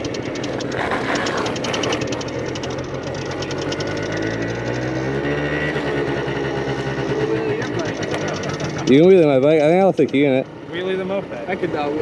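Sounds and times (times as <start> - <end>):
moped engine idling: 0.0 - 12.0.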